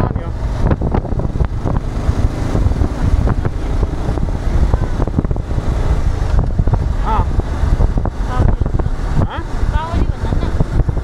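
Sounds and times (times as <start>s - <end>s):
moving vehicle rumble: 0.0s - 11.0s
wind on microphone: 0.0s - 11.0s.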